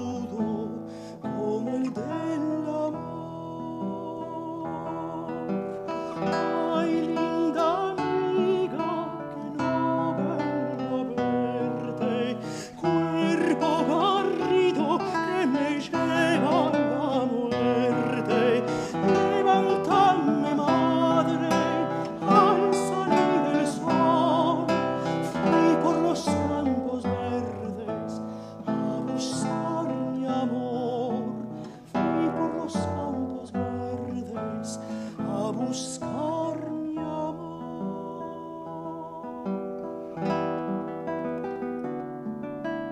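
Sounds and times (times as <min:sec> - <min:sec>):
countertenor singing with vibrato: 0:00.0 - 0:39.5
fingerpicked classical guitar: 0:00.0 - 0:42.9.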